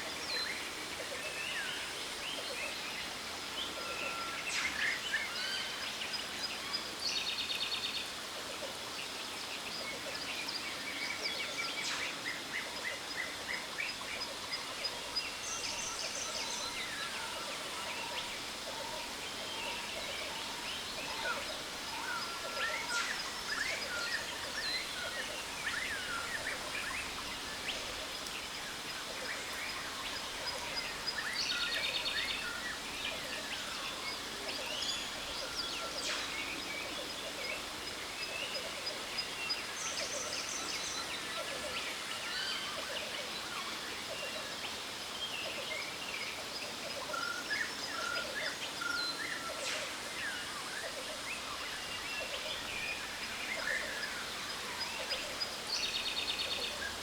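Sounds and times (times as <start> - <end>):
falling water hiss: 0.0 - 57.0.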